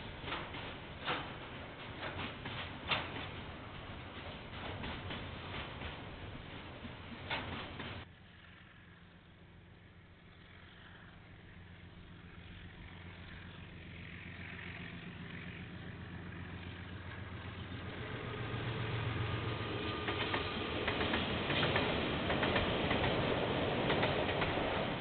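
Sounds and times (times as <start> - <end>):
wheels clicking over rail joints: 0.0 - 8.1, 12.7 - 25.0
diesel locomotive engine hum: 0.0 - 25.0.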